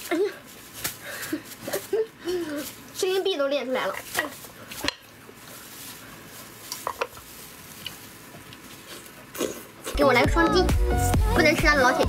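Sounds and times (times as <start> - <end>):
gloved hands rustling: 0.0 - 9.8.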